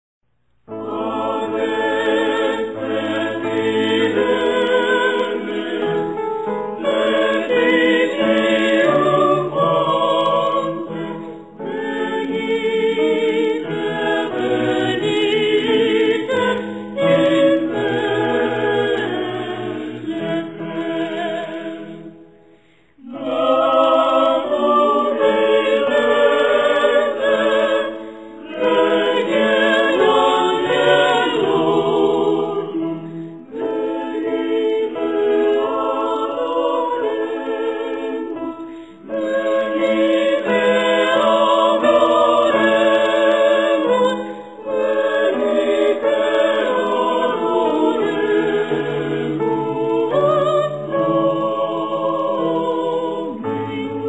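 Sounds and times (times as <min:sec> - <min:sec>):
choir singing: 0:00.6 - 0:54.0.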